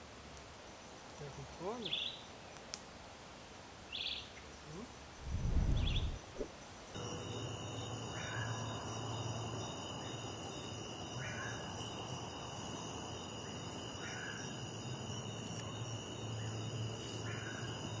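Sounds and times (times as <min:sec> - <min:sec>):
insects calling: 0:00.5 - 0:02.7, 0:03.4 - 0:18.0.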